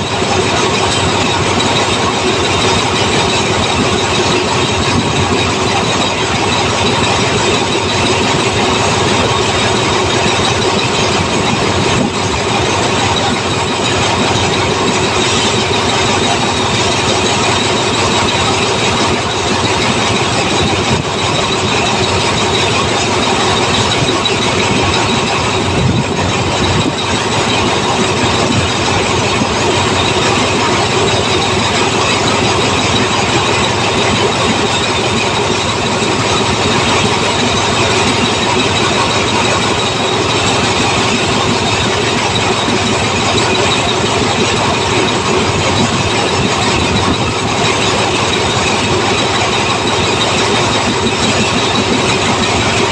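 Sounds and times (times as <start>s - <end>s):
diesel train engine and rails: 0.0s - 52.9s.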